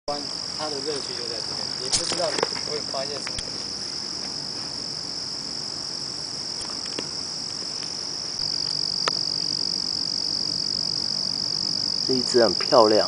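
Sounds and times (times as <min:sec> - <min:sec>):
night insects trilling: 0:00.1 - 0:13.0.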